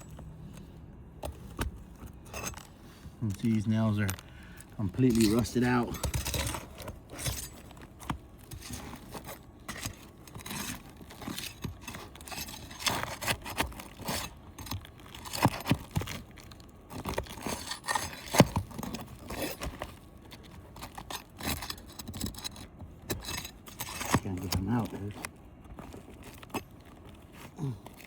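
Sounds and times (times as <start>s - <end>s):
pry bar scraping roof shingles: 1.2s - 28.0s.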